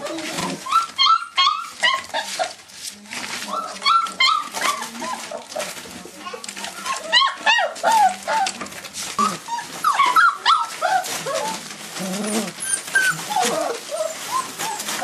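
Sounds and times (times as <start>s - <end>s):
puppies whimpering and yipping: 0.0s - 15.0s.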